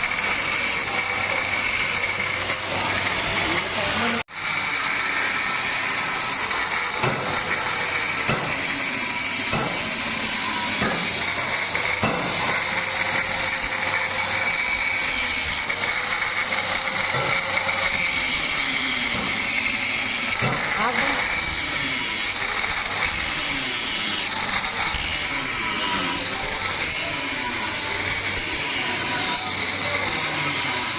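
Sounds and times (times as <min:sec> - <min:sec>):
workshop machinery hissing: 0:00.0 - 0:30.9.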